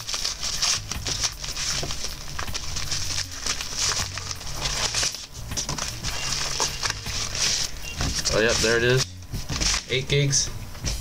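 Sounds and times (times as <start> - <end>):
paper envelope crackling and rustling: 0.0 - 10.2.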